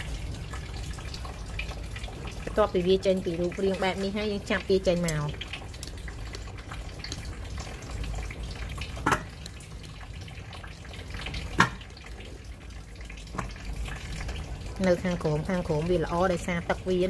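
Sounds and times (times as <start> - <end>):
brine splashing and dripping: 0.0 - 17.0.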